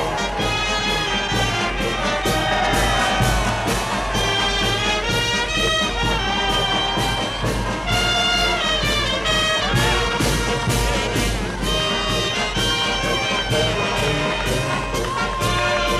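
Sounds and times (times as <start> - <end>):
brass band music: 0.0 - 15.9.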